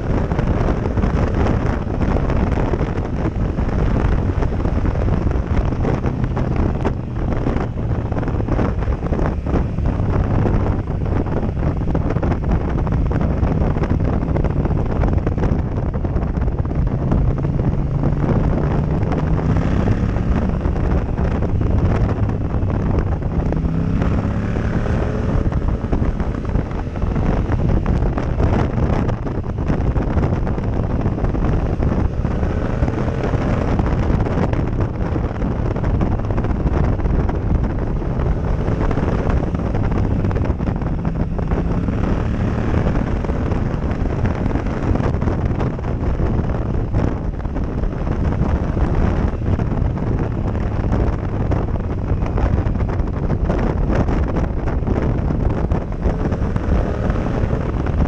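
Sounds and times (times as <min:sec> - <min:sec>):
motorcycle engine: 0:00.0 - 0:58.0
wind rushing over microphone: 0:00.0 - 0:58.0.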